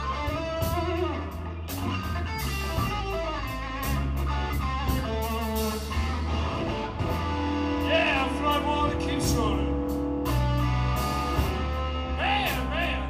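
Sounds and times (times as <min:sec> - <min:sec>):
drum kit with cymbals: 0:00.0 - 0:11.9
bass guitar: 0:00.0 - 0:13.0
electric guitar: 0:00.0 - 0:13.0.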